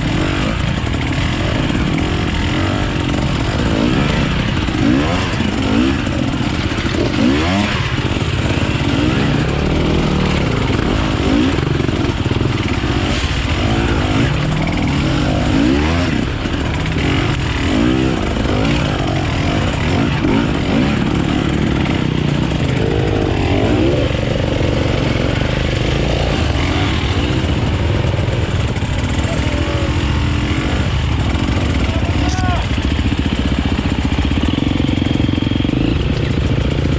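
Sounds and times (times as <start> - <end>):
motorcycle engines revving: 0.0 - 36.9.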